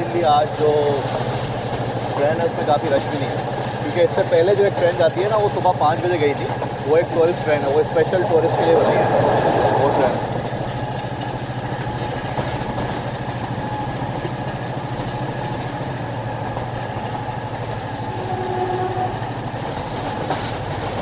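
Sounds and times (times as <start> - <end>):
train running noise: 0.0 - 21.0.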